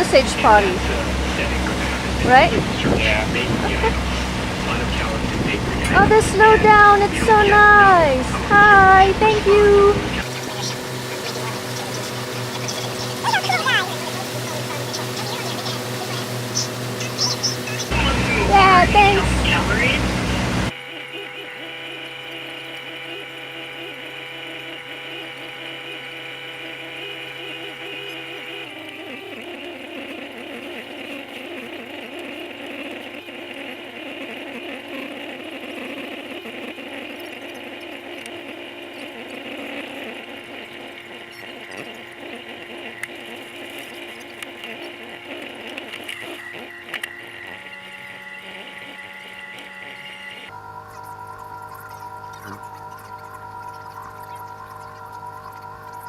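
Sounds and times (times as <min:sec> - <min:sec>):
low mechanical hum: 0:00.0 - 0:56.0
wavering whir: 0:00.0 - 0:56.0.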